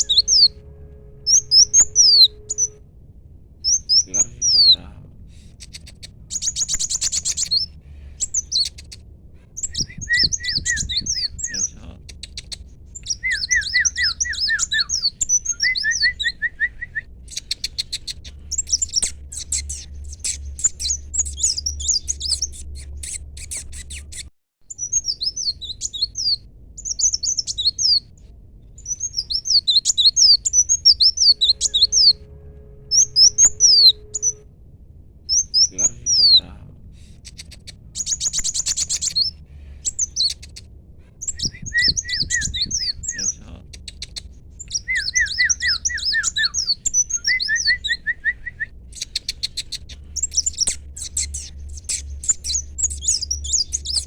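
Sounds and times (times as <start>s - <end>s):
sunbird singing high chirps: 0.0s - 0.6s, 1.2s - 2.8s, 3.6s - 4.9s, 5.5s - 9.0s, 9.6s - 28.1s, 28.8s - 32.2s, 32.9s - 34.4s, 35.3s - 36.5s, 37.2s - 40.6s, 41.2s - 54.0s.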